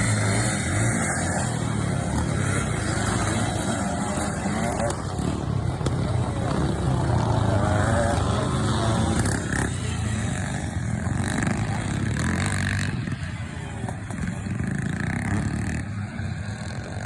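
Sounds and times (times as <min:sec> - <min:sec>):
motorcycles racing at high revs: 0:00.0 - 0:17.0.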